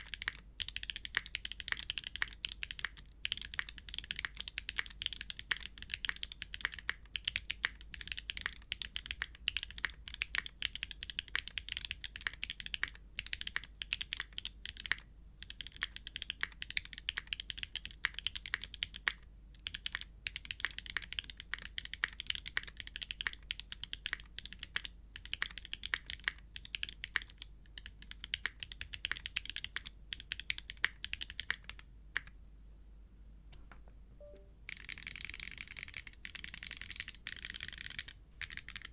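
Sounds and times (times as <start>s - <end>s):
fast typing on mechanical keyboard: 0.0s - 32.4s, 34.7s - 38.9s.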